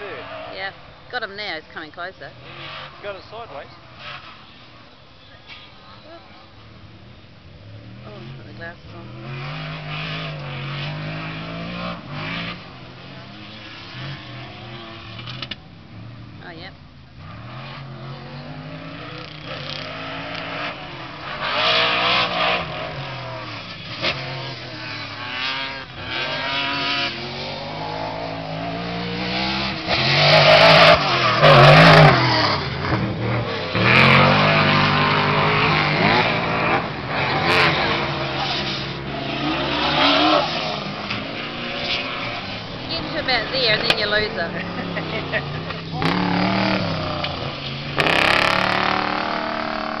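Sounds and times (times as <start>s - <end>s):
race vehicle engines revving: 0.0s - 50.0s.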